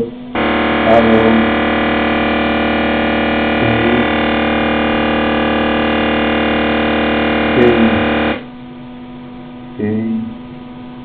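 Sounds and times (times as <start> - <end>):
loud buzz from audio mixer: 0.0 - 11.0
mains hum: 0.0 - 11.0.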